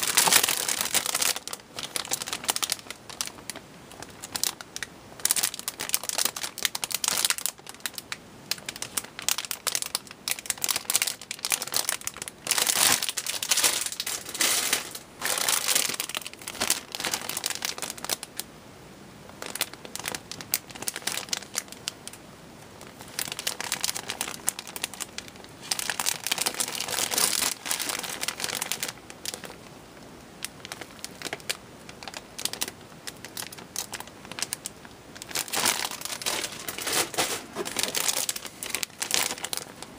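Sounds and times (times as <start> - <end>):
plastic bags crinkling: 0.0 - 18.4, 19.3 - 22.2, 22.8 - 29.7, 30.4 - 39.9.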